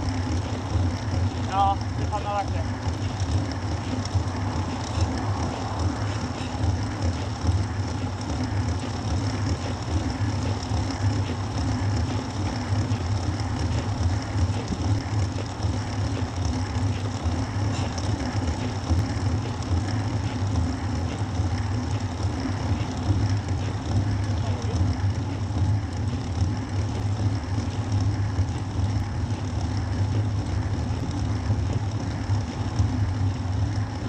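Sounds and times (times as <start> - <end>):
bicycle road rumble and hiss: 0.0 - 34.0.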